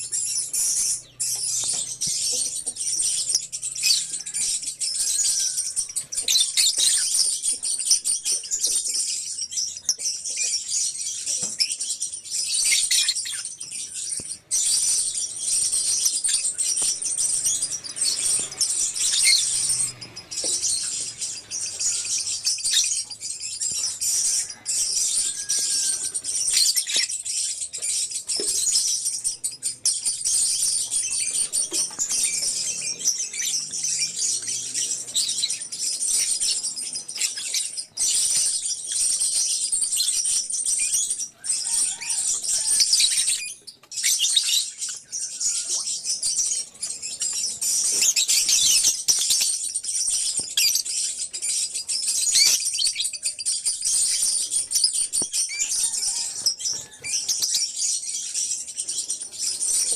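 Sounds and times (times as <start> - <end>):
lovebirds chirping and chattering: 0.0 - 59.9.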